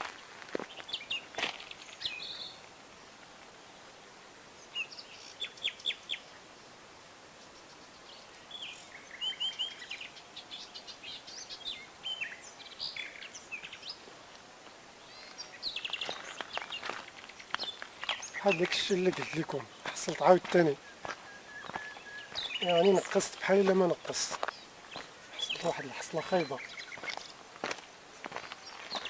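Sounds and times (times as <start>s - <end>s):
steady outdoor hiss: 0.0s - 29.0s
wild birds chirping: 0.0s - 29.0s.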